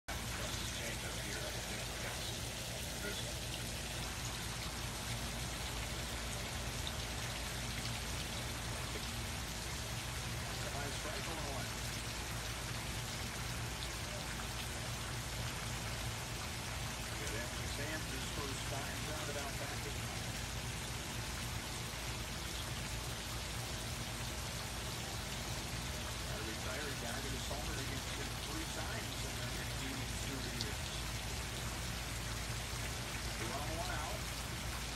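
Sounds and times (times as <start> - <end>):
fountain water splashing into pool: 0.1 - 34.9
low steady hum: 0.1 - 34.9
low steady rumble: 0.1 - 34.9.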